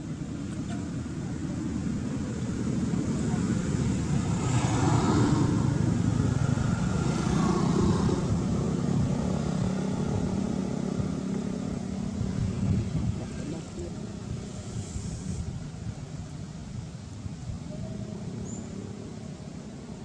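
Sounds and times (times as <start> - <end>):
motor engine rumble: 0.0 - 20.0.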